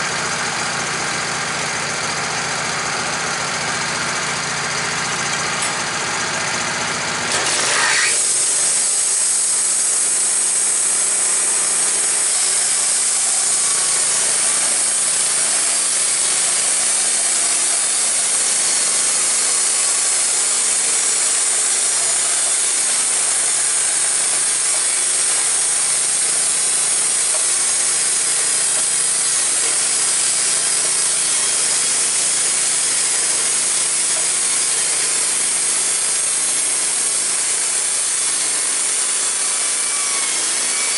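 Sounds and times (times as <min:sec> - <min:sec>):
engine idling: 0:00.0 - 0:40.4
band saw blade sawing log: 0:03.0 - 0:40.9.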